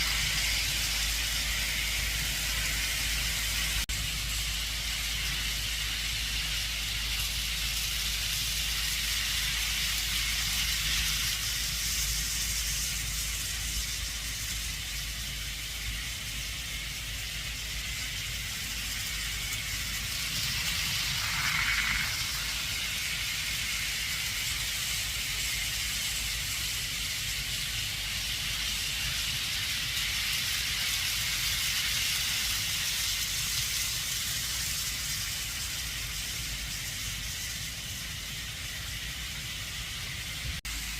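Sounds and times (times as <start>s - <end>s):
model trains rolling hiss: 0.0s - 40.9s.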